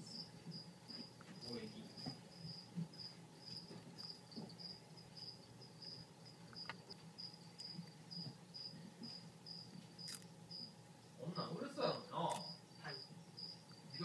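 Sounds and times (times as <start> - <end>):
cricket chirping: 0.0 - 14.0
low steady hum: 0.0 - 14.0.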